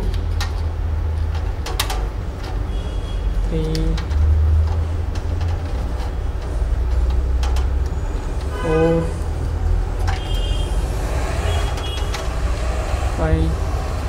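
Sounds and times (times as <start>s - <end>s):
connectors clicking: 0.0s - 14.0s.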